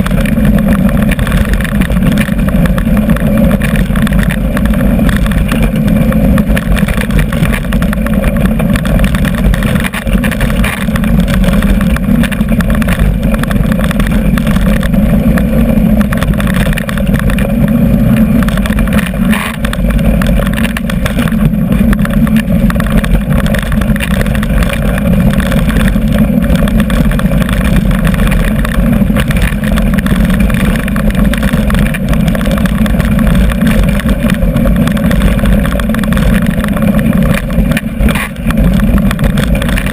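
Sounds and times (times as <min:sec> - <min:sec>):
bike tyres rattling over dirt trail: 0:00.0 - 0:39.9
wind buffeting microphone: 0:00.0 - 0:39.9.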